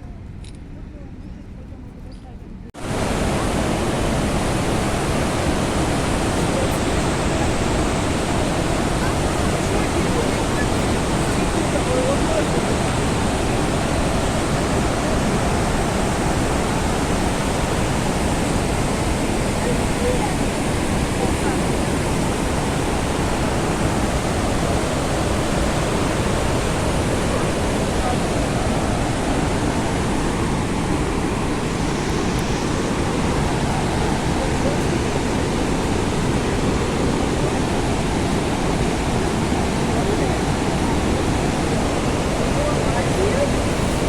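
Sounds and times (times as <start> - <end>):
waterfall roaring: 2.8 - 44.0.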